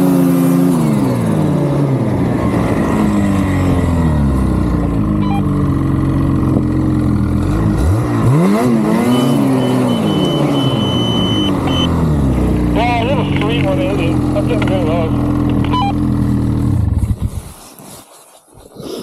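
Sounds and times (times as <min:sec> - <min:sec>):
vehicle engine revving: 0:00.0 - 0:17.5.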